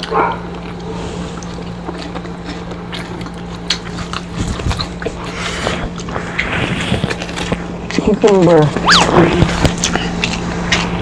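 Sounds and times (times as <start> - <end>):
chewing and crunching: 0.0 - 11.0
lip smacks: 0.0 - 11.0
low hum: 0.0 - 11.0.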